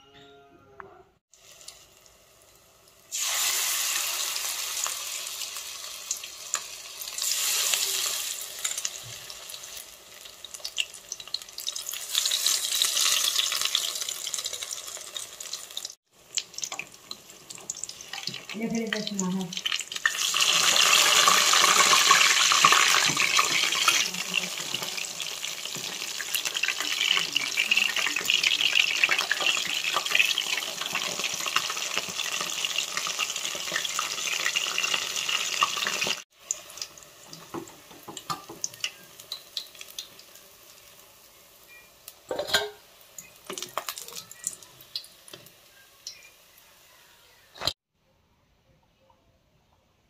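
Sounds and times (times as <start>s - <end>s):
oil sizzling and crackling: 1.3s - 47.8s.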